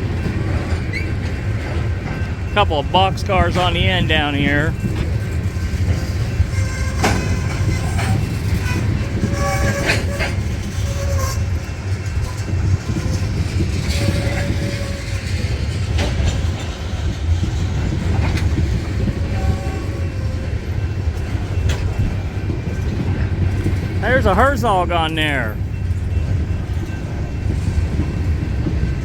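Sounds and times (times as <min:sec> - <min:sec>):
steel wheels rumbling on rail: 0:00.0 - 0:24.0, 0:25.5 - 0:29.0
train cars clanking: 0:00.0 - 0:24.0.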